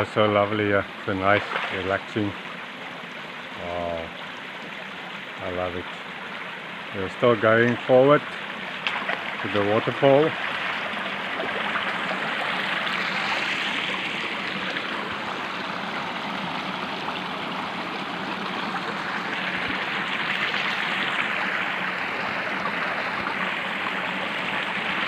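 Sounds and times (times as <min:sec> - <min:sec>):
river flowing over stones: 0:00.0 - 0:25.0.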